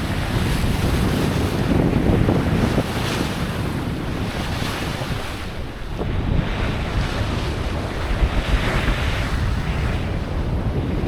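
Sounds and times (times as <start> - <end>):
water sloshing along hull: 0.0 - 11.0
wind buffeting microphone: 0.0 - 11.0.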